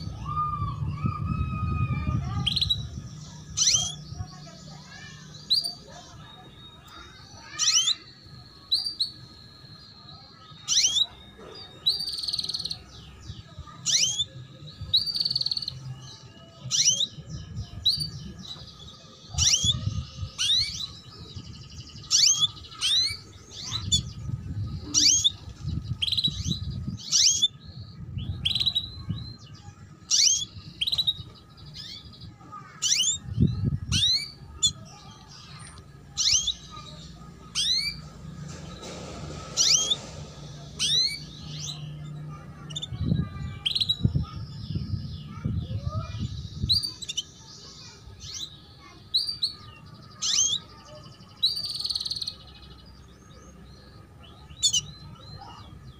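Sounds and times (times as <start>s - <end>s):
canary chirps: 0.0s - 55.9s.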